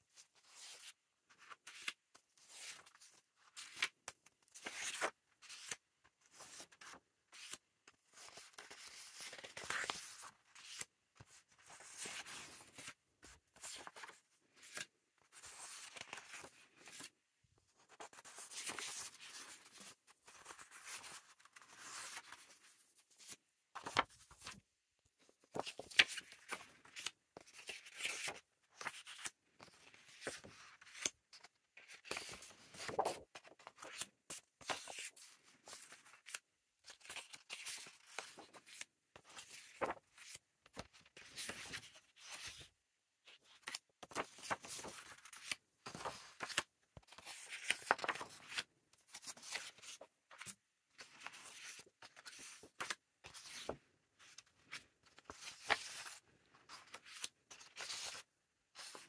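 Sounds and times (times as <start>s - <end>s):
paper pages rustling: 0.4s - 17.1s, 17.8s - 24.6s, 25.3s - 42.7s, 43.4s - 58.2s.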